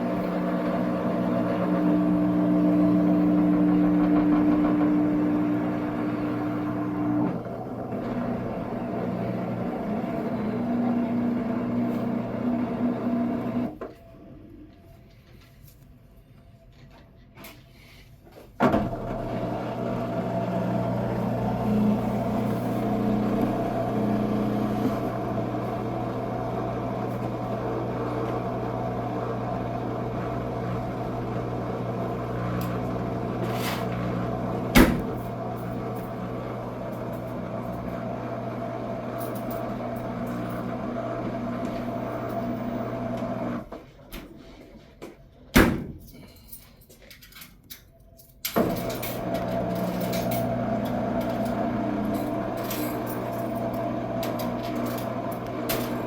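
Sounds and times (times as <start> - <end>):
washing machine hum: 0.0 - 15.0, 17.8 - 46.6, 48.6 - 56.0.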